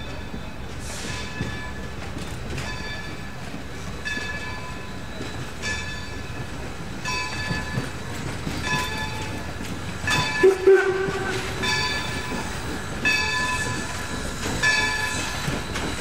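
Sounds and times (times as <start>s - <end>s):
train coaches rumbling: 0.0s - 16.0s
wheels knocking on rail joints: 1.4s - 16.0s.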